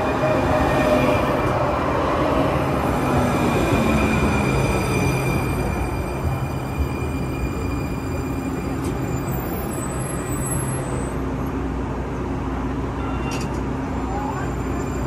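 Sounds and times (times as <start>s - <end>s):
train humming with low drone: 0.0s - 15.0s.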